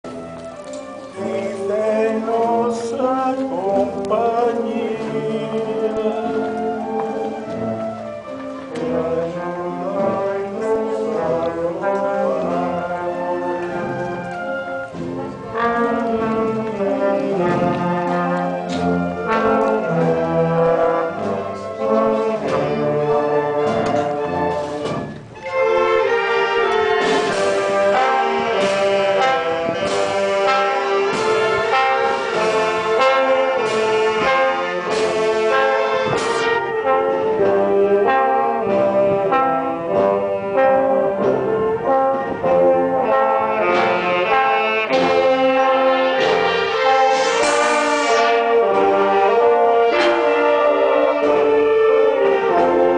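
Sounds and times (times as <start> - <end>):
brass band playing a march: 0.0 - 52.9.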